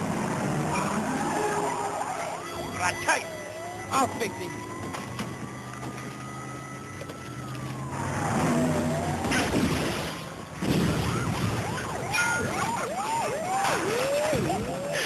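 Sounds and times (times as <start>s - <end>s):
police siren wailing and yelping: 0.1s - 9.6s, 10.9s - 15.0s.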